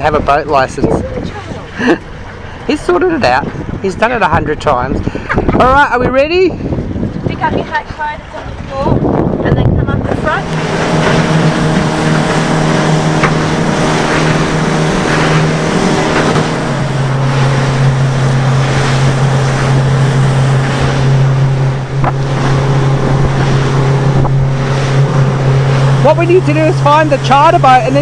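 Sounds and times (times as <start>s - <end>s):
boat engine running: 0.0s - 28.0s
rush of wind and water: 0.0s - 28.0s.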